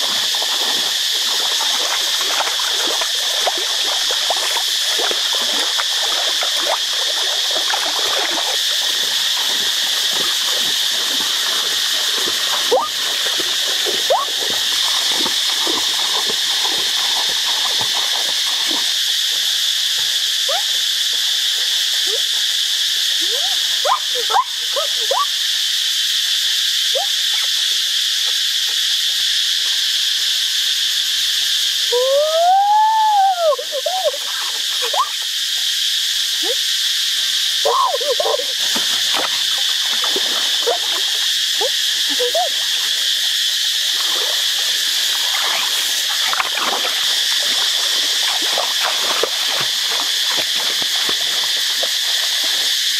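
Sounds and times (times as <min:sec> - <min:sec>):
frogs chirping: 0:00.0 - 0:52.9
insect drone: 0:00.0 - 0:52.9.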